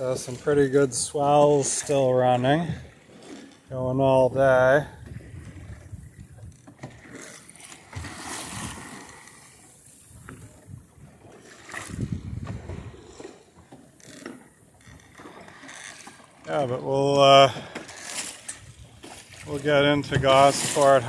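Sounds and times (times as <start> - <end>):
water splashing along boat hull: 0.0 - 21.0.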